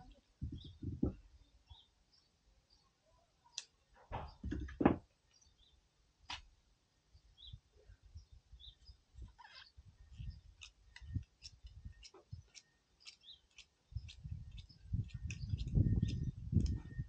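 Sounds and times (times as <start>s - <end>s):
small birds chirping: 0.0s - 6.5s, 7.1s - 17.0s.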